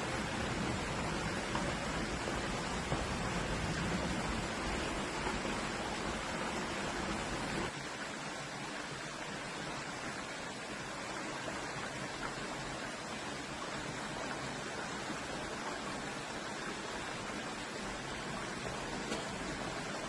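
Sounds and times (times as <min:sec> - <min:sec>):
water rushing over rocks: 0:00.0 - 0:20.0.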